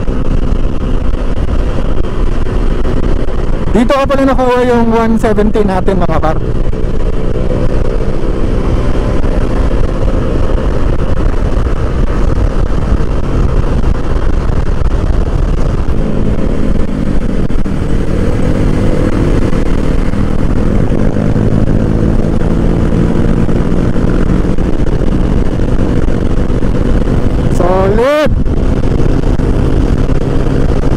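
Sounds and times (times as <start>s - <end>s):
scooter engine cruising: 0.0s - 30.9s
wind rush on microphone: 0.0s - 30.9s.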